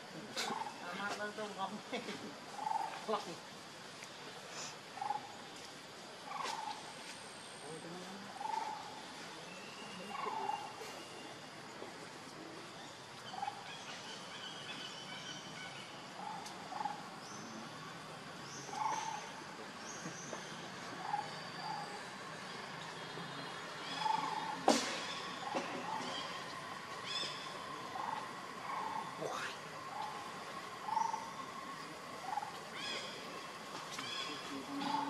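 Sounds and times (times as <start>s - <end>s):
outdoor hiss: 0.0s - 35.0s.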